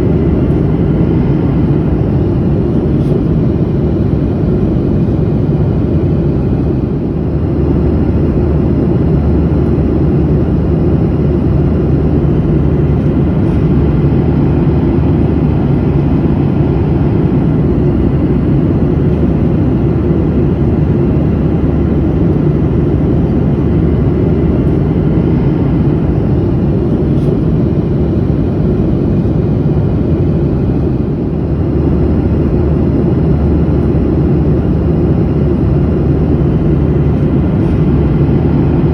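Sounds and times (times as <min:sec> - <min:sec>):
airliner cabin engine drone: 0:00.0 - 0:38.9.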